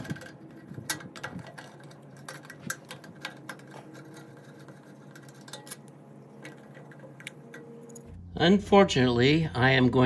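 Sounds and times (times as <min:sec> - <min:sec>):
small metal parts clicking: 0:00.0 - 0:08.1
faint steady hum: 0:00.0 - 0:10.0.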